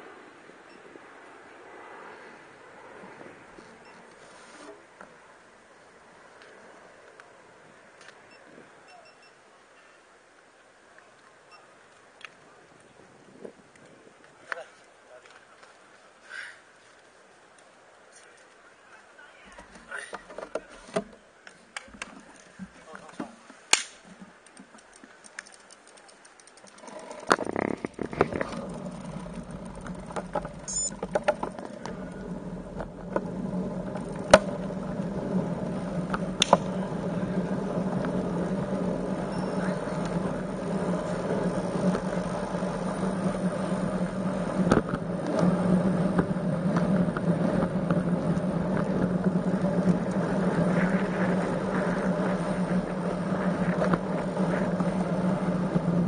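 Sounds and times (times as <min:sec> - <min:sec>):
bicycle wind and road noise: 0:00.0 - 0:56.0.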